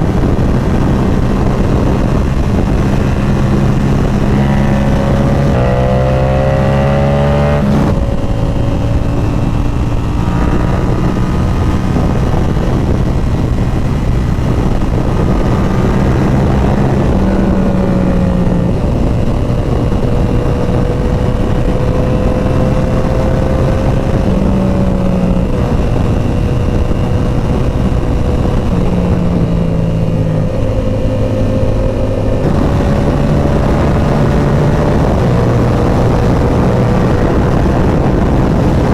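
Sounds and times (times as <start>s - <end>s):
motorcycle engine: 0.0s - 38.9s
wind rushing: 0.0s - 38.9s.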